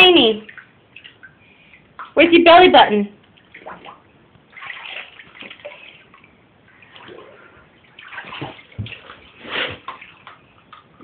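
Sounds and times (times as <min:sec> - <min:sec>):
bath water splashing: 0:00.0 - 0:11.0.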